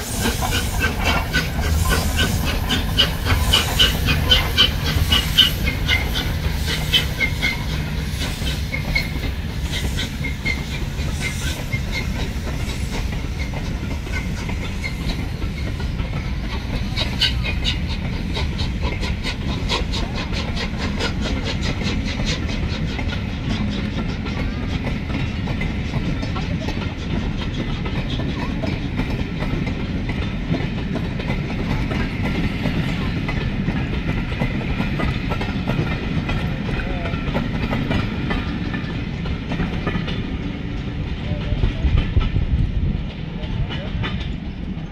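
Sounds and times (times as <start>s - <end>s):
steam hiss: 0.0s - 40.2s
train rumbling past: 0.0s - 44.9s
wheels clicking over rail joints: 0.2s - 44.9s.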